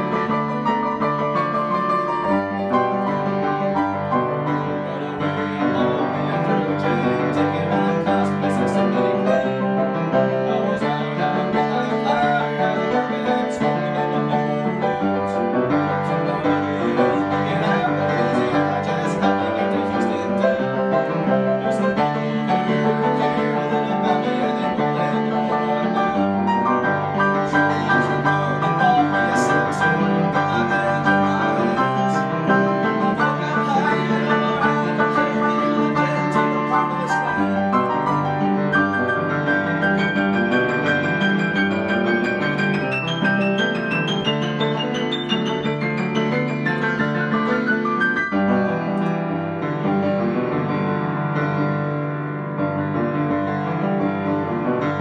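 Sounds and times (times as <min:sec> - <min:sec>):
grand piano playing: 0:00.0 - 0:55.0.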